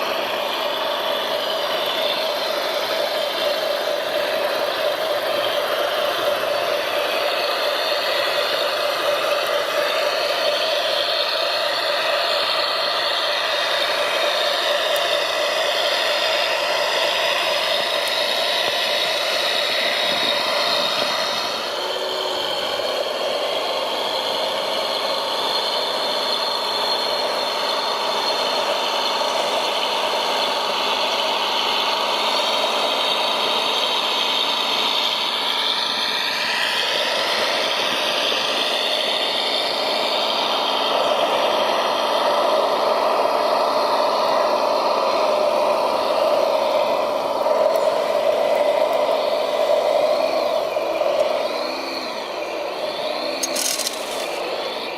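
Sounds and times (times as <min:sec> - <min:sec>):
model motors whining and rattling: 0:00.0 - 0:54.9.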